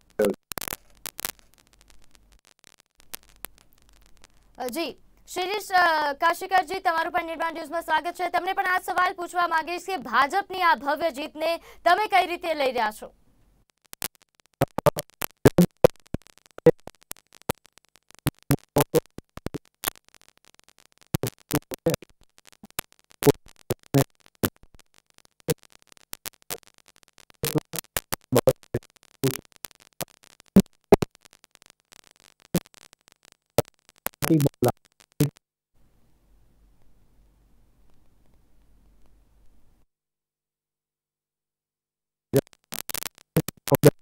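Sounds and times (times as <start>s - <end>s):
crackles and clicks: 0.0s - 39.9s, 42.3s - 44.0s.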